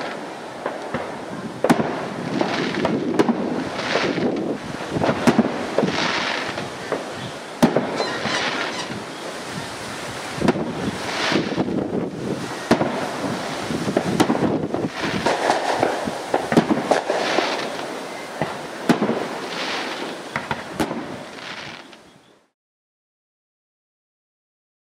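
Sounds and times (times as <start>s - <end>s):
fireworks bangs: 0.0s - 22.0s
fireworks crackling: 0.0s - 22.6s.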